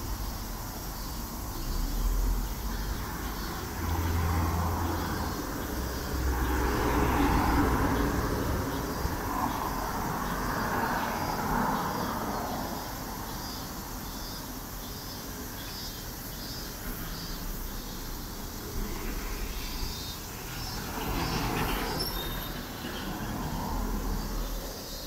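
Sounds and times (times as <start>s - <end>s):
vehicles driving past: 0.1s - 25.0s.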